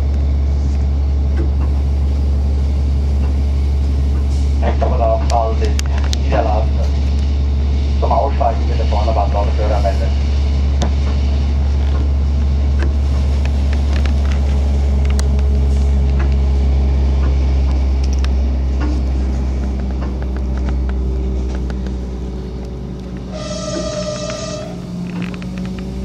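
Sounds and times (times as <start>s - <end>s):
loud steady low rumble: 0.0s - 26.0s.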